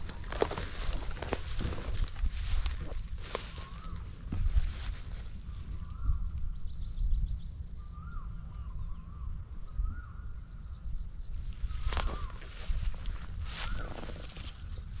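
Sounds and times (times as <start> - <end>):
low rumbling microphone noise: 0.0 - 15.0.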